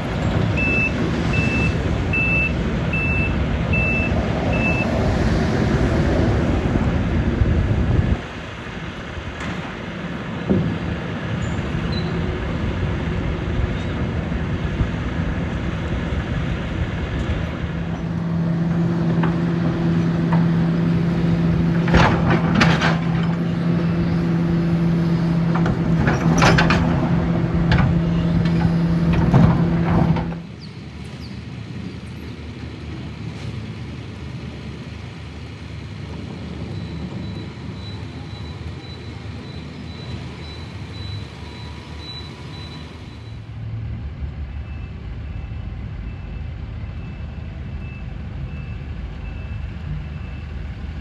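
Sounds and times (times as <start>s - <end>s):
demolition machinery droning: 0.0s - 51.0s.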